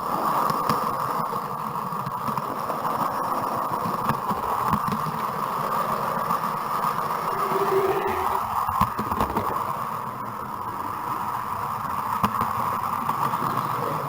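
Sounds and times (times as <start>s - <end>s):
model train rolling on track: 0.0s - 14.0s
wheels clicking over rail joints: 0.0s - 14.0s.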